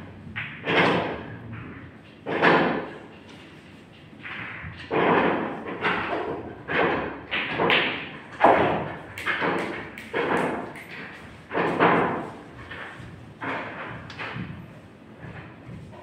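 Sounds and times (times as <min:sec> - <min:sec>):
pool balls clacking: 0:00.0 - 0:16.0
echoing thuds and knocks: 0:00.3 - 0:03.2, 0:04.2 - 0:16.0.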